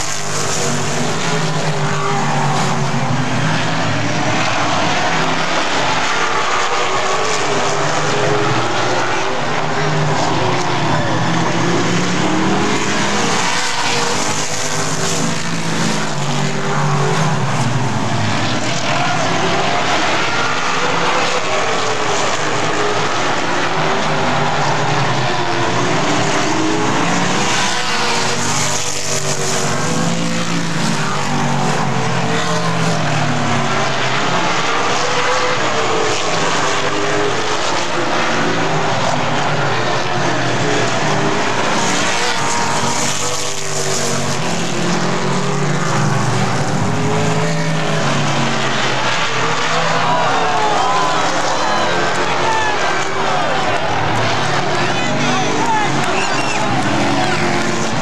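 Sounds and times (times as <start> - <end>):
stock car engines racing: 0.0 - 58.0.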